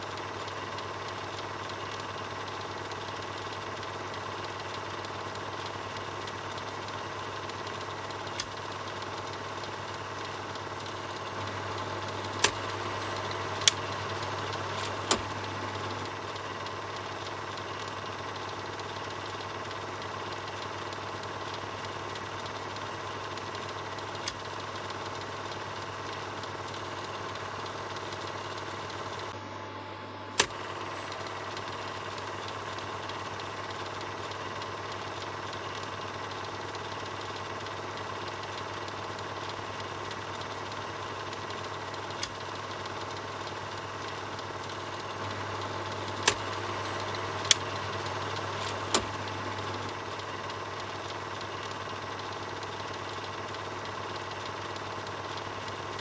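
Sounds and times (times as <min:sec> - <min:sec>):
sharp projector clicks: 0:00.0 - 0:29.4, 0:30.3 - 0:56.0
film projector whirring: 0:00.0 - 0:56.0.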